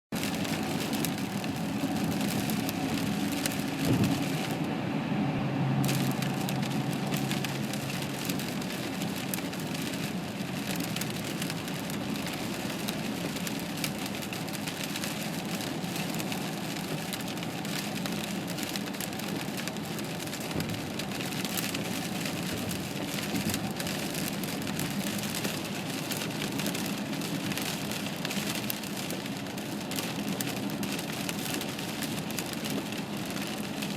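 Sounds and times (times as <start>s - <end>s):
vehicle road noise hiss: 0.2s - 33.9s.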